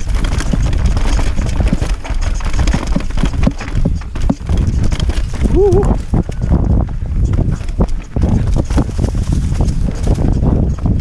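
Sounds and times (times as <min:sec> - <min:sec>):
bike knocks and rattles: 0:00.0 - 0:11.0
tyres over dirt and rock: 0:00.0 - 0:11.0
wind on microphone: 0:00.0 - 0:11.0.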